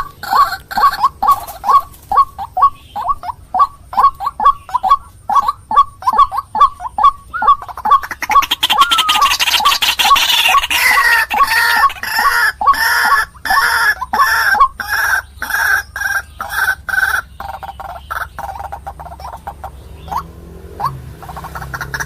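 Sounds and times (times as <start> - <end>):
waterhen calling harsh notes: 0.0 - 22.0.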